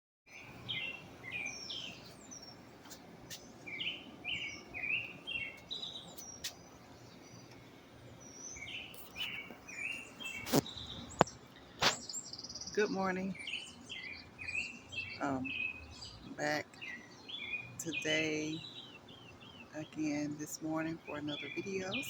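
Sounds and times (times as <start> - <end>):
songbird chirping: 0.3 - 22.0.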